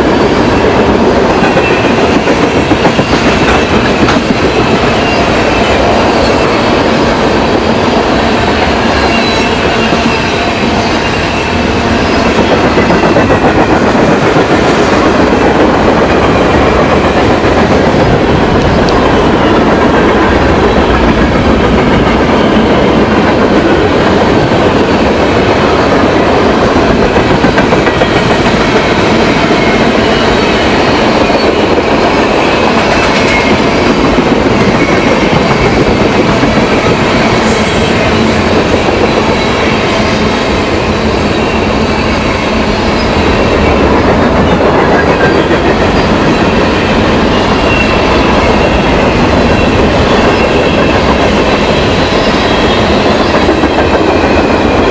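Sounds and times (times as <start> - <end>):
railroad cars rumbling past: 0.0 - 54.9.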